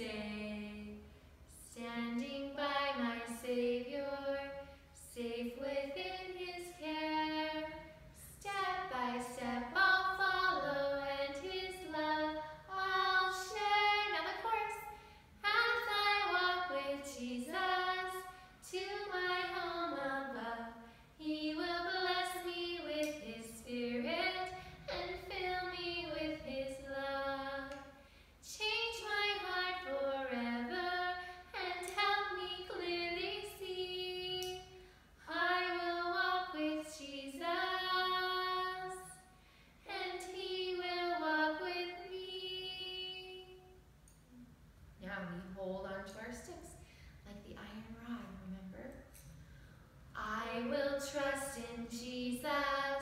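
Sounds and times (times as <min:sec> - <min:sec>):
woman and boy singing: 0:00.0 - 0:39.2, 0:39.9 - 0:43.6, 0:50.2 - 0:53.0.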